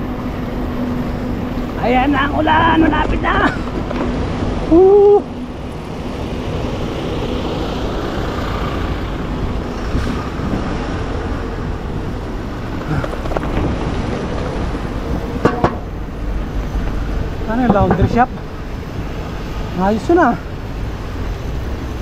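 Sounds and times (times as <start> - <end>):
passing cars and buses: 0.0 - 22.0.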